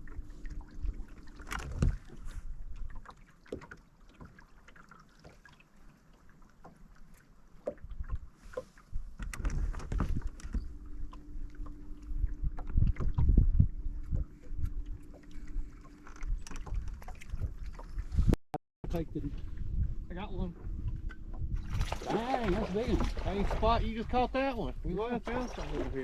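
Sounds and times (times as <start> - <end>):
wind rumbling on microphone: 0.0 - 3.0, 7.9 - 26.0
low steady hum: 0.0 - 4.5, 6.4 - 26.0.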